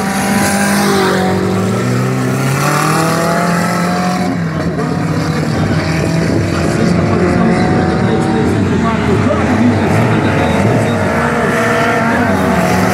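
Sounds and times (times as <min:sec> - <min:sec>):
race car engine accelerating: 0:00.0 - 0:12.9.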